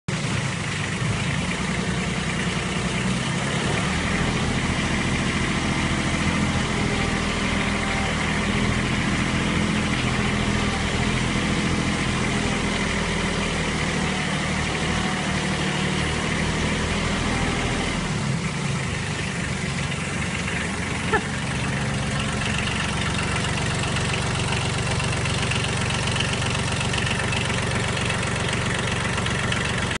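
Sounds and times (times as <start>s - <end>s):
tractor diesel engine idling: 0.1s - 30.0s.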